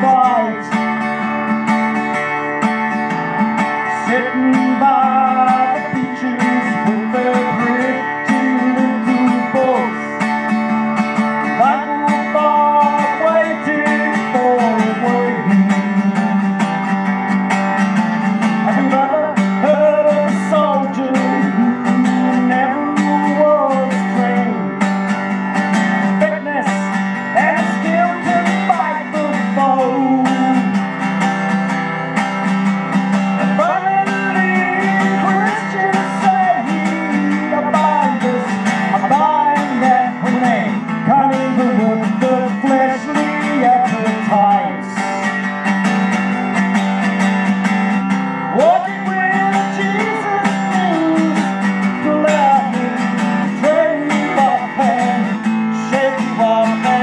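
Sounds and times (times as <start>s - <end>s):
acoustic guitar strumming: 0.0s - 57.0s
man singing folk song: 0.0s - 57.0s.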